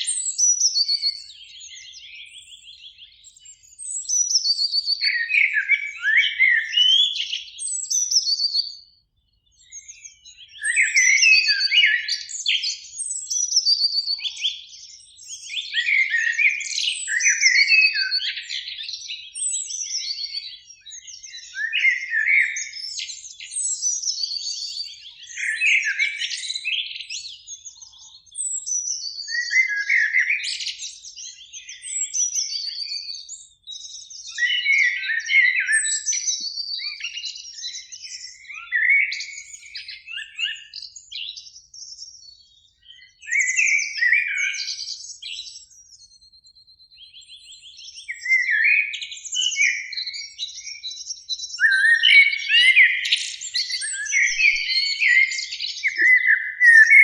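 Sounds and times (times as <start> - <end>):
blackbirds singing: 0.0 - 57.0.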